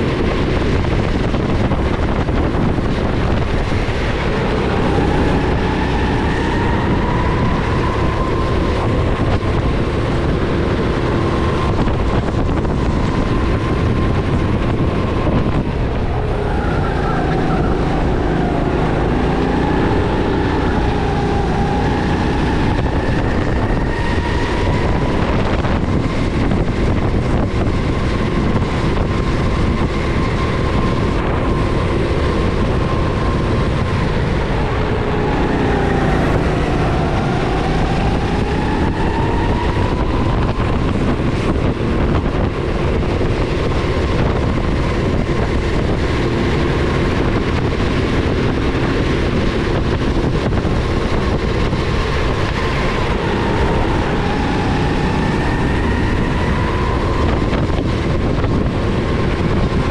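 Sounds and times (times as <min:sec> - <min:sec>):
go-kart engine roaring: 0:00.0 - 0:59.9.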